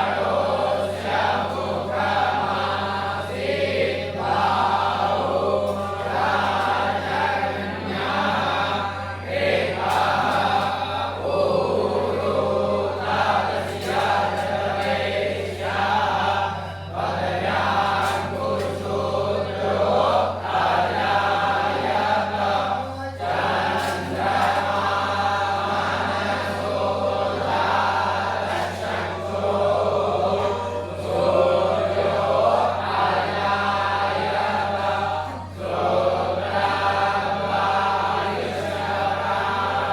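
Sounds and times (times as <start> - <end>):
group chanting in unison: 0.0 - 39.9.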